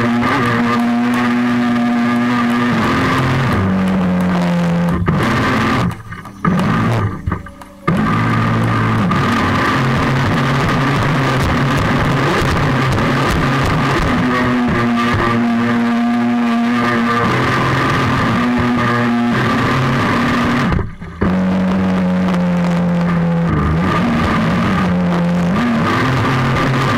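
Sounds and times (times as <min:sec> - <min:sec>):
distorted electric guitar notes: 0:00.0 - 0:26.9.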